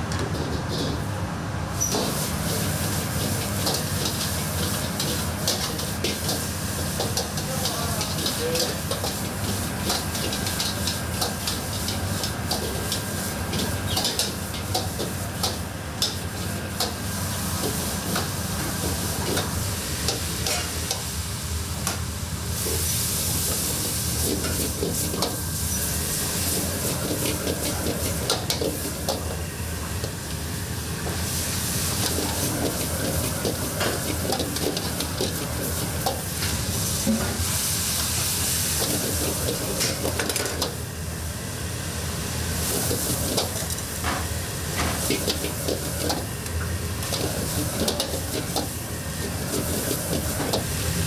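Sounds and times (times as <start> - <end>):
food sizzling in hot pan: 1.8 - 21.5, 22.6 - 29.3, 30.2 - 40.8, 41.4 - 51.0.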